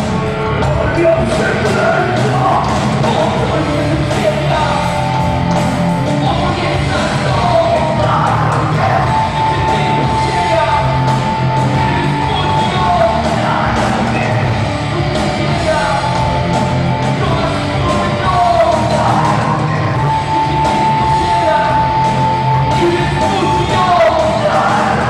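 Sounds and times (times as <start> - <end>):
bending lead guitar line: 0.0 - 25.0
rock band playing loudly: 0.0 - 25.0.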